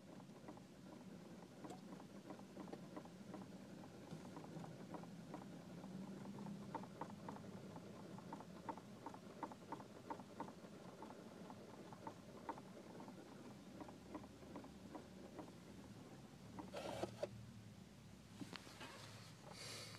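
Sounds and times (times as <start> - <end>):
faint irregular clicking: 0.0 - 17.3.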